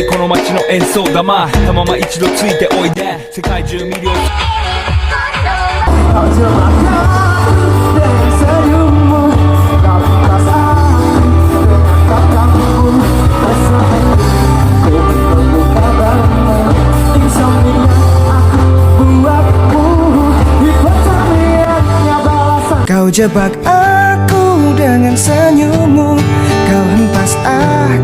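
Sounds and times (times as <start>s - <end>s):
person singing: 0.0s - 28.0s
pop-rock music with bass: 0.0s - 28.0s.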